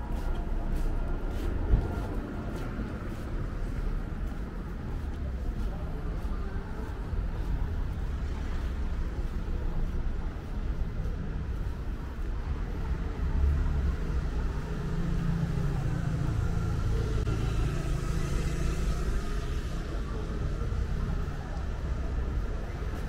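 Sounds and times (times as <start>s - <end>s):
street ambience low rumble: 0.0s - 23.0s.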